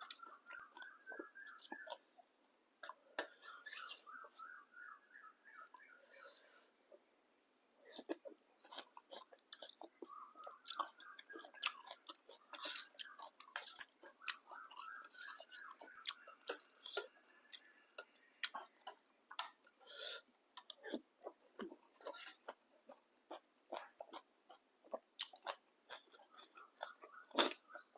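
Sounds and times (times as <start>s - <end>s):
person chewing noodles: 0.0s - 4.4s, 7.9s - 27.9s.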